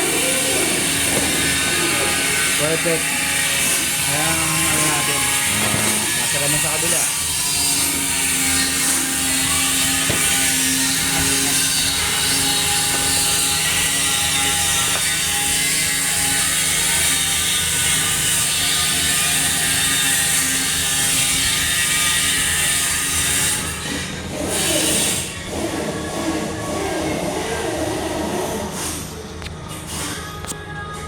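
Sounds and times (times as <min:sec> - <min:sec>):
machine running with hum: 0:00.0 - 0:30.5.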